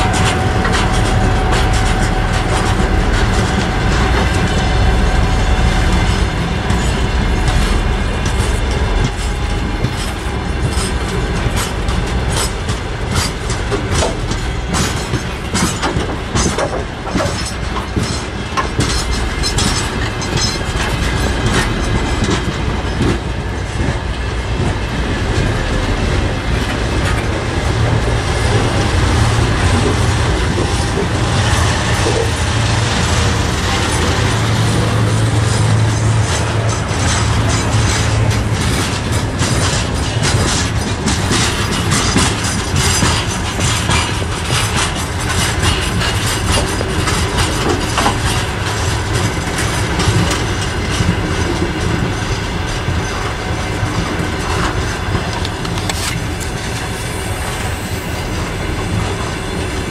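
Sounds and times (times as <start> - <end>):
freight train rumbling past: 0.0 - 59.9
wheels clattering over rail joints: 0.0 - 59.9.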